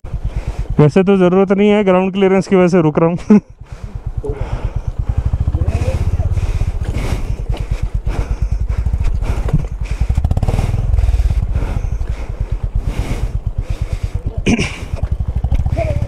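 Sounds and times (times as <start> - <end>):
motorcycle engine throbbing: 0.0 - 16.0.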